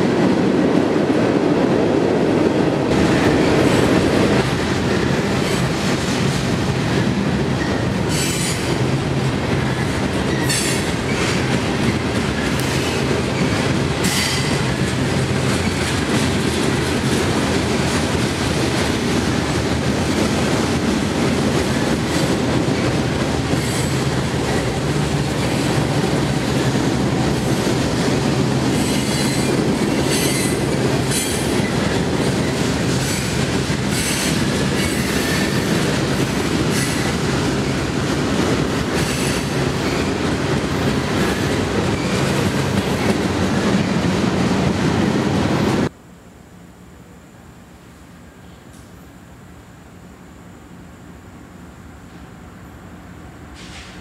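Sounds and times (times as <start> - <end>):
train wheels rumbling on rail: 0.0 - 46.0, 48.0 - 54.0.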